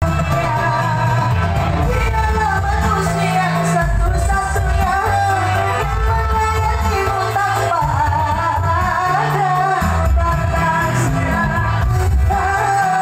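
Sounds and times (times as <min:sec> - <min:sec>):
backing music with bass line: 0:00.0 - 0:13.0
woman singing into a microphone: 0:00.0 - 0:13.0.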